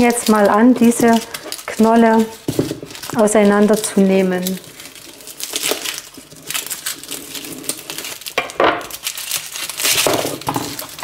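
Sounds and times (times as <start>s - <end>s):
garlic skin crackling and rustling: 0.0s - 11.0s.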